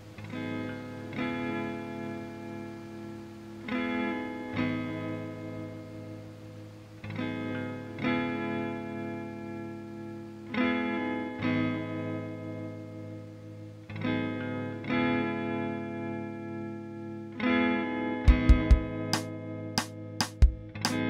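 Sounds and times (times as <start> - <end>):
guitar chords ringing: 0.0 - 21.0.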